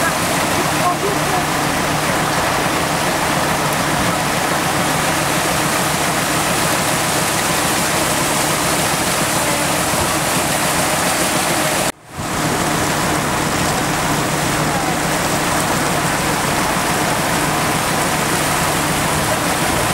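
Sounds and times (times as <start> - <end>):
low engine hum: 0.0 - 19.9
water rushing around vehicle: 0.0 - 19.9.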